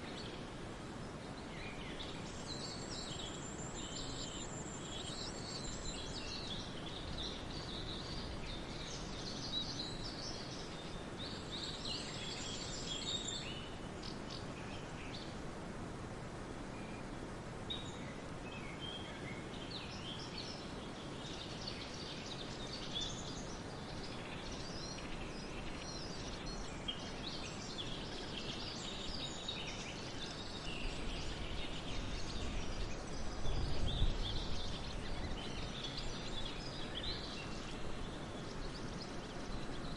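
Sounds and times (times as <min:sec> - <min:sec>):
small birds chirping: 0:00.0 - 0:15.4, 0:16.7 - 0:39.9
steady background hiss: 0:00.0 - 0:39.9.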